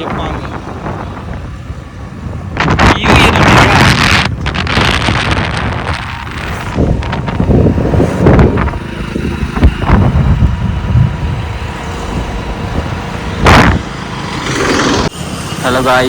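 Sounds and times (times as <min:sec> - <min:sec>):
road traffic rumble: 0:00.0 - 0:16.0
wind buffeting microphone: 0:00.0 - 0:16.0.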